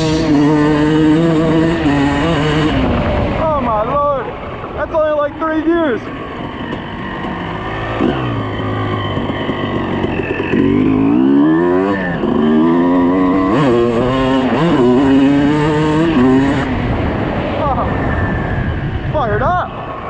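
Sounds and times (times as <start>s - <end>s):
motorcycle engine revving: 0.0s - 4.8s, 5.8s - 19.0s.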